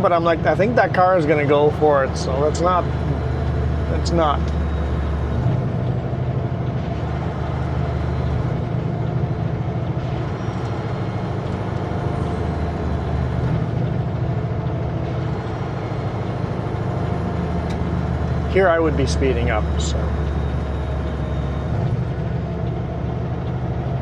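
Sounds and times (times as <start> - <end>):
road noise: 0.0 - 24.0
truck diesel engine running: 0.0 - 24.0.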